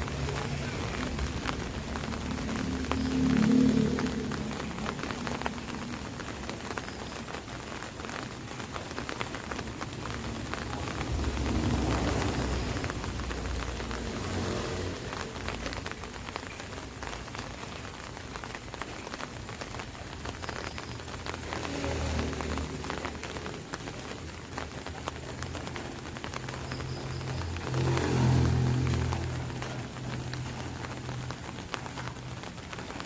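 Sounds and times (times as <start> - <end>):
rain pattering on an umbrella: 0.0 - 33.0.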